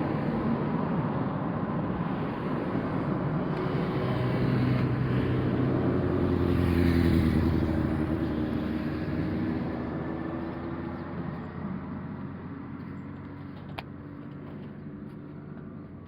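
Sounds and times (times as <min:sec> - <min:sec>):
road rumble: 0:00.0 - 0:16.0
vehicle engine: 0:02.0 - 0:16.0.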